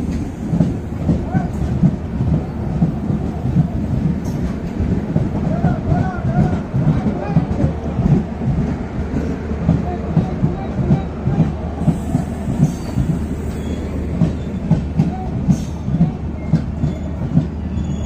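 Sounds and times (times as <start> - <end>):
low train rumble: 0.0 - 18.0.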